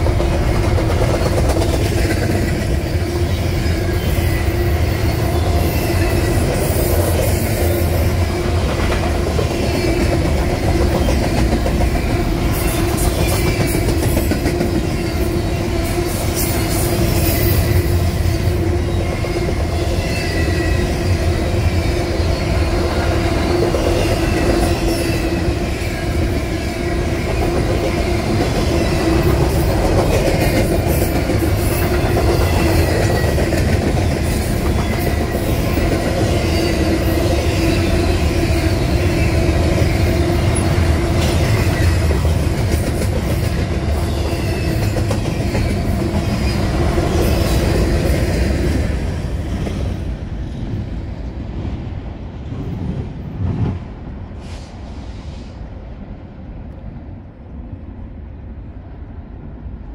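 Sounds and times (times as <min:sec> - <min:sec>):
locomotive passing: 0:00.0 - 0:51.7
steel wheels rumbling on rail: 0:00.0 - 0:59.9.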